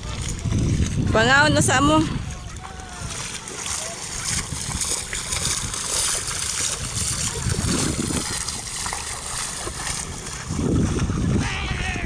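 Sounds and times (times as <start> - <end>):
sea water splashing and washing: 0.0 - 12.0
wind buffeting microphone: 0.0 - 12.0.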